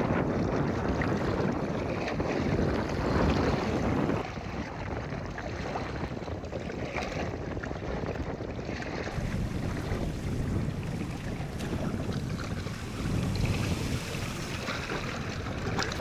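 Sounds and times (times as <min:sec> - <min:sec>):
wind buffeting microphone: 0:00.0 - 0:16.0
sea waves: 0:00.1 - 0:06.3, 0:08.9 - 0:16.0.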